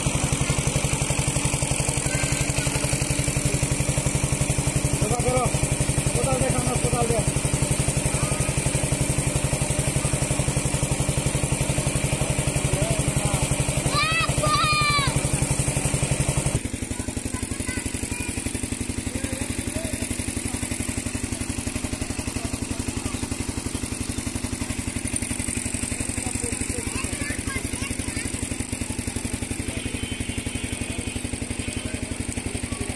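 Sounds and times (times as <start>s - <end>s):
water pump engine chugging: 0.0s - 32.9s.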